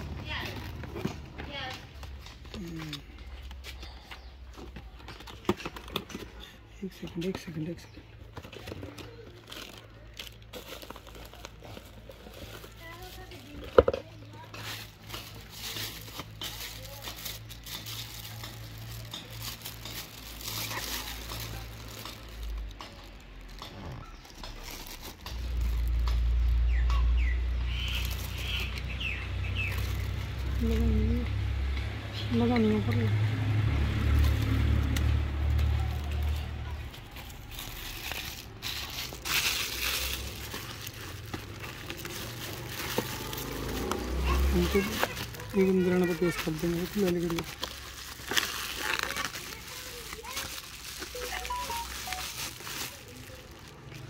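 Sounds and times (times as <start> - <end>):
plastic packaging crinkling: 4.6 - 31.2, 33.3 - 54.0
bubble wrap crackling: 4.7 - 31.6, 32.2 - 54.0.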